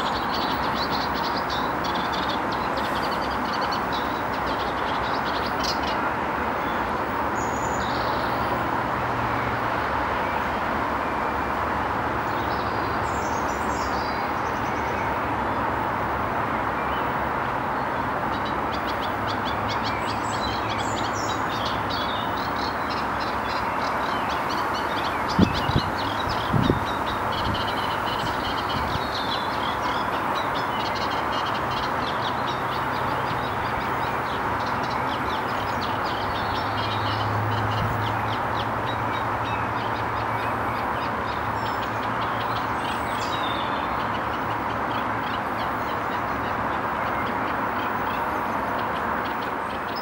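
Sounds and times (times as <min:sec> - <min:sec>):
outdoor background rush: 0:00.0 - 0:50.0.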